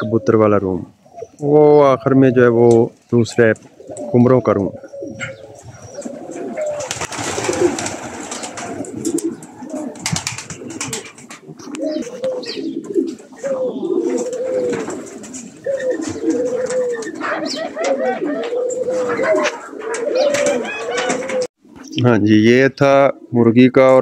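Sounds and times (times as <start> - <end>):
pigeons cooing: 0.0 - 21.8.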